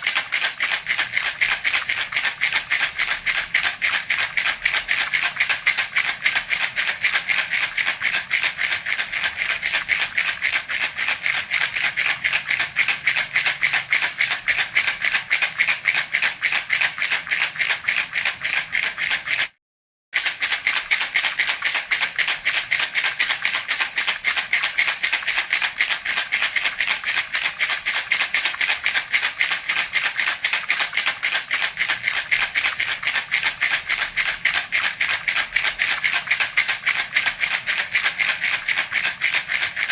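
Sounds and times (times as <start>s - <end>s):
baby rattle shaking: 0.0s - 19.6s, 20.2s - 39.9s.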